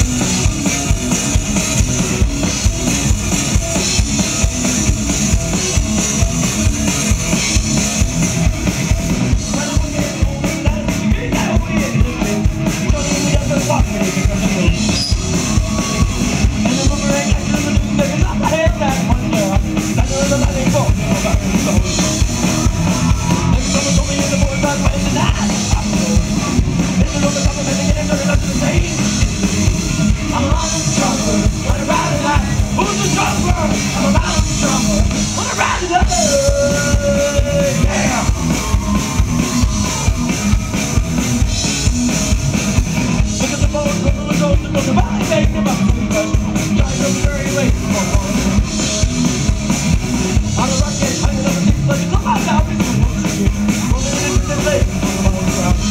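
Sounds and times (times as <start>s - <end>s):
drum kit: 0.0s - 55.9s
live rock band playing: 0.0s - 55.9s.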